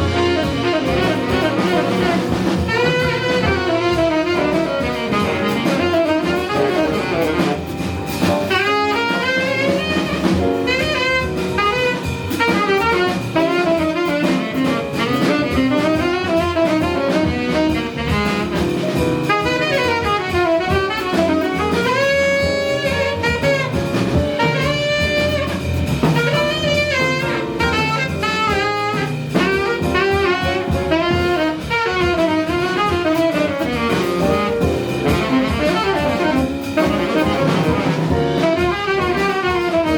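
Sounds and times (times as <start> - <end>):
double bass: 0.0 - 39.9
drum kit: 0.0 - 39.9
piano: 0.0 - 39.9
saxophone: 0.0 - 39.9.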